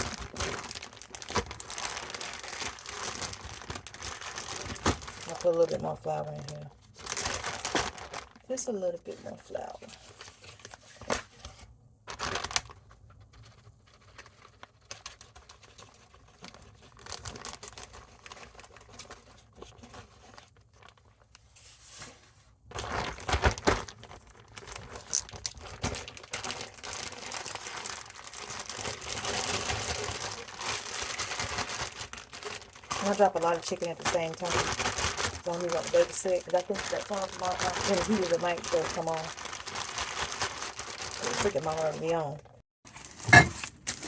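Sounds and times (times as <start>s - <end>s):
plastic crinkling and rustling: 0.0s - 44.0s.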